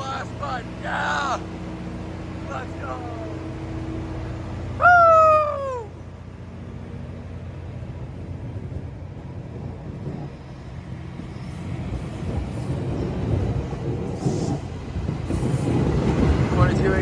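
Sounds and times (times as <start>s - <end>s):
train droning and rumbling: 0.0s - 17.0s.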